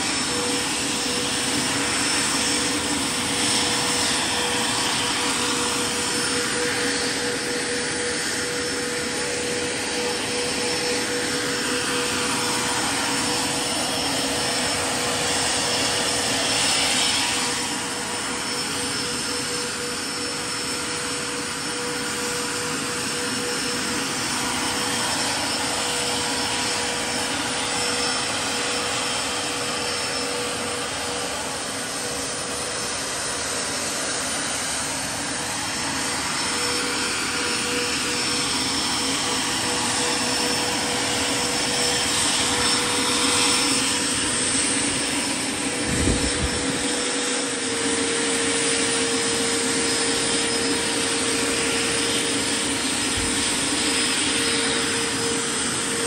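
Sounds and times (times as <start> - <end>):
model helicopter turbine whine: 0.0 - 56.0.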